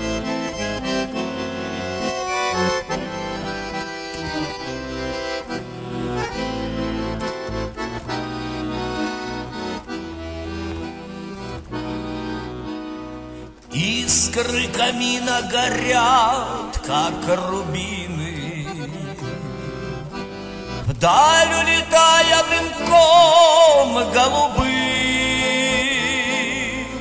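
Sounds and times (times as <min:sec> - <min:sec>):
instrumental melody over bass: 0:00.0 - 0:27.0.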